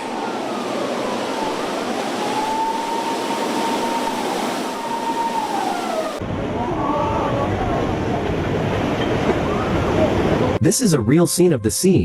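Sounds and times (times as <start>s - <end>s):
storm wind and water rushing: 0.0s - 11.1s.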